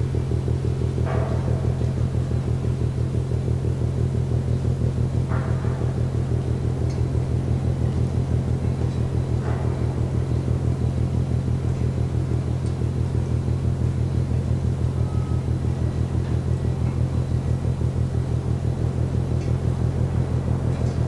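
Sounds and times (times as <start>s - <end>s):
distant ship low pounding: 0.0s - 21.0s.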